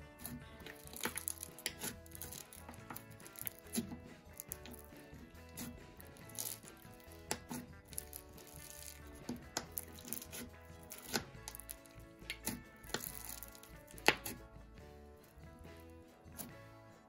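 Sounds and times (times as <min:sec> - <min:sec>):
soft background music: 0:00.0 - 0:17.0
slime crunching and popping: 0:00.2 - 0:14.4.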